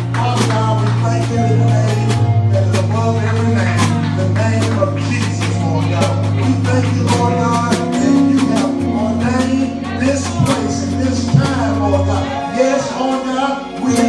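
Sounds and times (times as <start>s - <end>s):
gospel band music: 0.0s - 14.0s.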